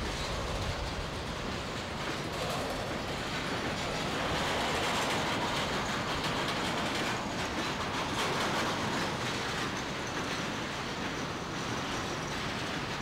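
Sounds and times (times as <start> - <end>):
train cars rumbling past: 0.0 - 13.0
wheels clattering over rails: 0.0 - 13.0.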